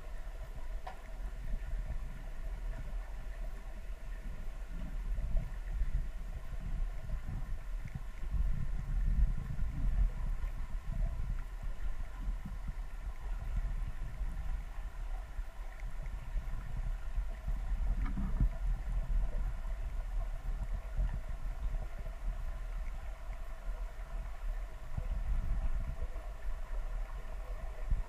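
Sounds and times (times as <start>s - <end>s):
faint steady hum: 0.0s - 28.0s
muffled underwater rumble: 0.0s - 28.0s.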